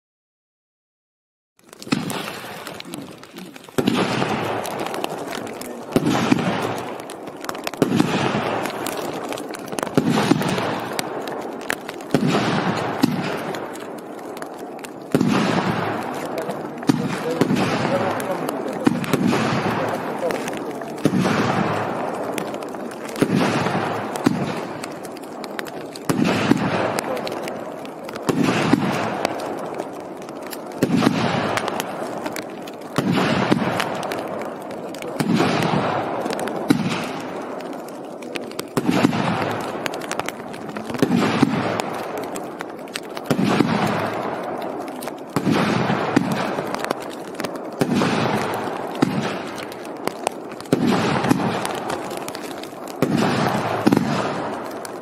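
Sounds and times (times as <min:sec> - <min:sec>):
fireworks bangs with hiss: 0:01.8 - 0:55.0.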